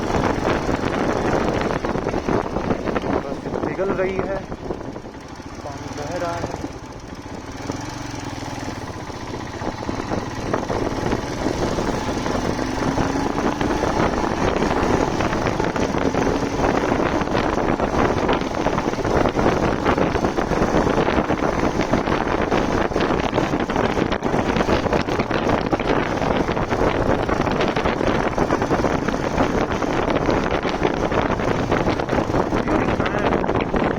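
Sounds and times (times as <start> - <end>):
motorcycle engine running: 0.0 - 33.9
wind buffeting microphone: 0.0 - 33.9.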